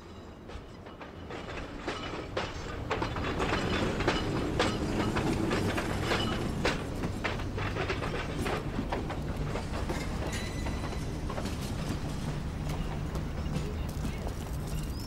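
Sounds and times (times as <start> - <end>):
tram wheels clattering on rails: 0.0 - 15.0.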